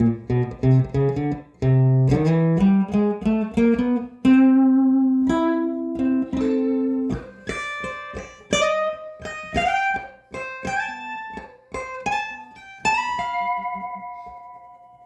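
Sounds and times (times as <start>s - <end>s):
electric guitar single picked notes: 0.0s - 15.0s.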